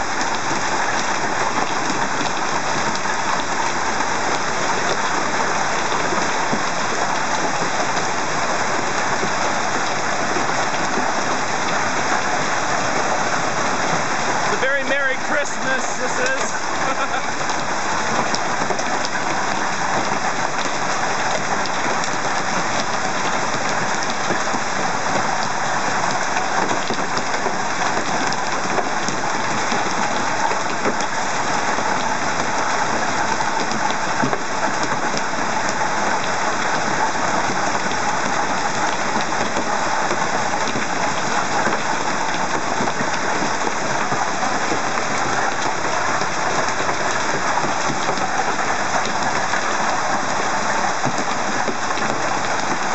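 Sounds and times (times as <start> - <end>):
hail and heavy rain on cars: 0.0 - 52.9.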